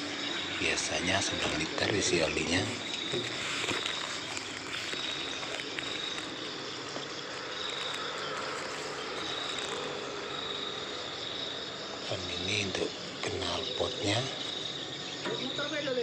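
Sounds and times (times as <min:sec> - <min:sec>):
steady hiss: 0:00.0 - 0:15.0
insects trilling: 0:00.0 - 0:16.0.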